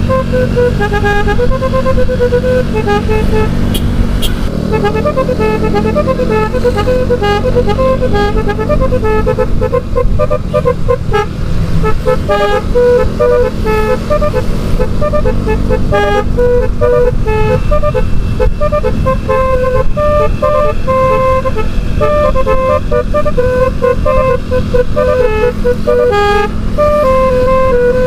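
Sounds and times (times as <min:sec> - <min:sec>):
steady low rumble: 0:00.0 - 0:27.9
motorcycle horn tooting melody: 0:00.0 - 0:28.0.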